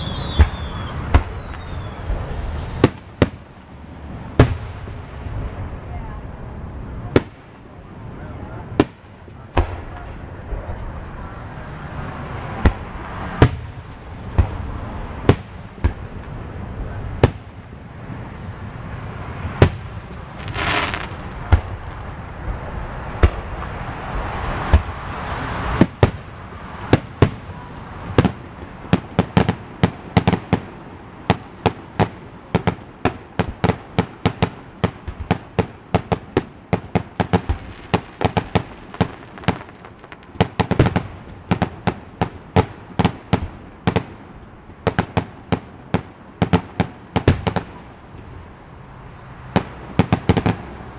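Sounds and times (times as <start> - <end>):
distant fireworks pops: 0.0 - 3.6, 7.0 - 10.7, 12.5 - 17.7, 19.4 - 48.3, 49.5 - 50.8.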